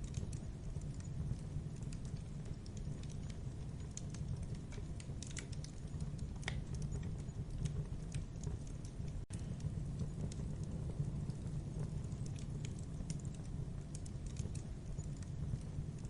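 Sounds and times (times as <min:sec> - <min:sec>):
fire pops and snaps: 0:00.0 - 0:16.0
low rumble of flames: 0:00.0 - 0:16.0.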